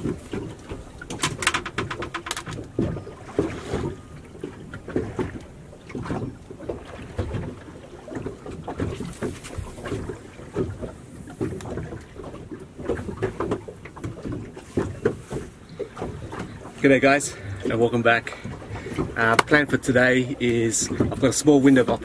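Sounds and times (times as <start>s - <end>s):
water slapping against boat hull: 0.0s - 22.0s.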